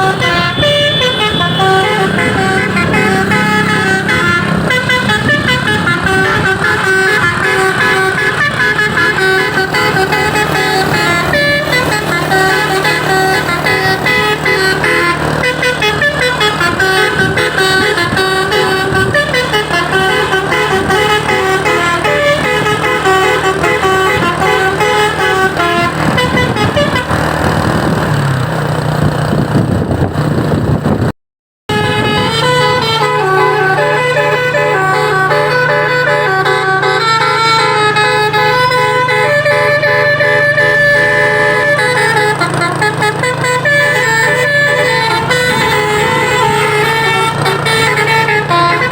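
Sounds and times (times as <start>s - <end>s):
musical air horn playing a tune: 0.0s - 27.3s, 31.7s - 48.9s.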